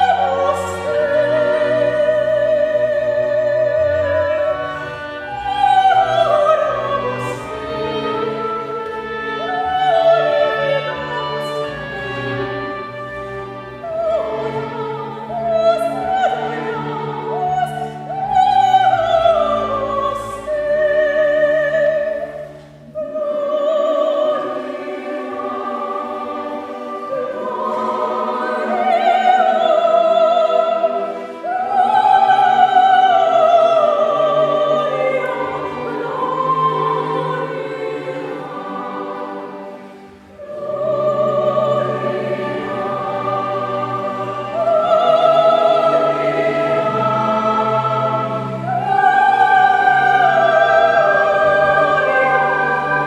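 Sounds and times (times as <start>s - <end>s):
chamber orchestra: 0.0s - 53.0s
choir singing sacred music: 0.0s - 53.0s.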